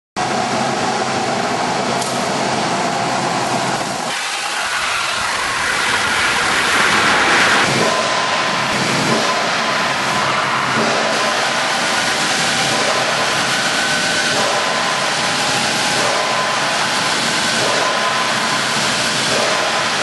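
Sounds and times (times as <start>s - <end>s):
wood chipper running: 0.2s - 20.0s.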